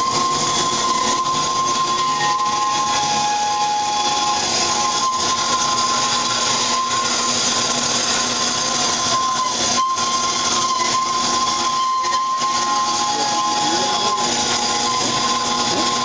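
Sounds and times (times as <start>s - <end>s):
bandsaw cutting metal: 0.0s - 16.0s.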